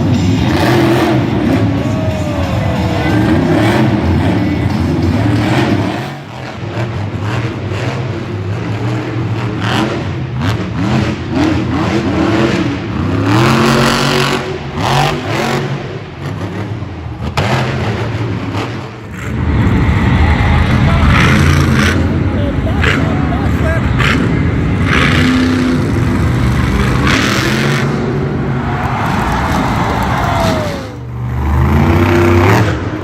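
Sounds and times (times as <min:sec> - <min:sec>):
monster truck engines revving: 0:00.0 - 0:33.0.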